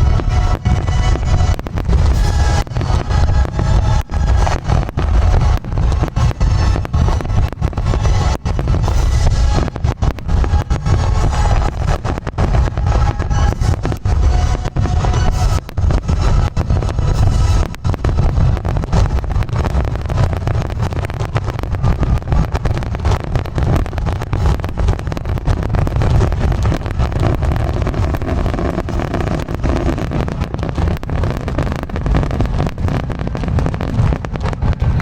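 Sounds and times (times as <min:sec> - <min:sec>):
fireworks bangs and crackles: 0:00.0 - 0:35.0
low rumble: 0:00.0 - 0:35.0.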